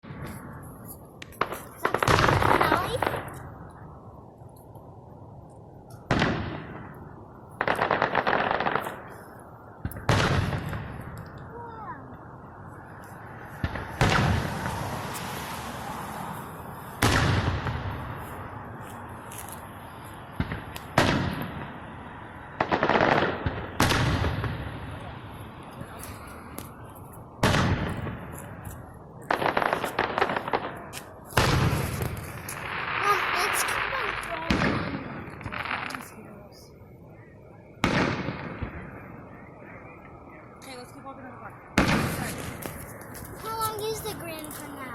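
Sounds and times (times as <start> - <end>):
firework crackling pops: 0.1 - 3.8, 5.8 - 11.8, 13.0 - 36.4, 37.8 - 39.0, 41.8 - 44.9.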